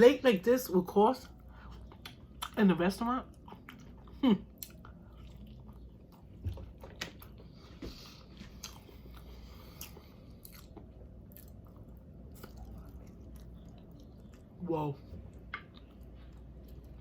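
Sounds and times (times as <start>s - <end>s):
low steady hum: 0.0s - 17.0s
person chewing food: 1.2s - 2.6s, 3.2s - 17.0s.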